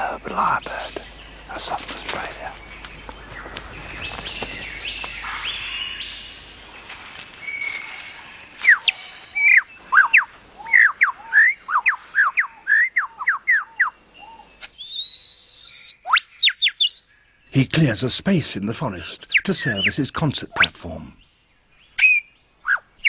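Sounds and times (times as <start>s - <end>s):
lyrebird singing: 0.0s - 23.0s.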